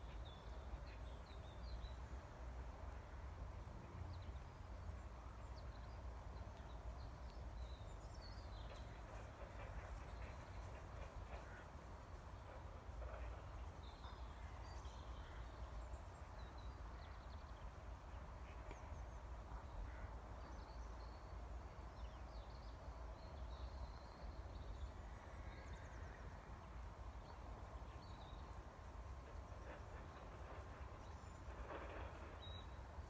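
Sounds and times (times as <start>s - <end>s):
low outdoor rumble: 0.0s - 21.4s, 22.3s - 33.0s.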